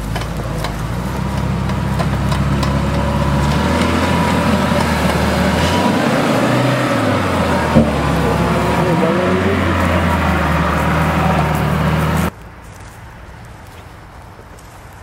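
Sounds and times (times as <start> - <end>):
suv engine under load: 0.0 - 12.3.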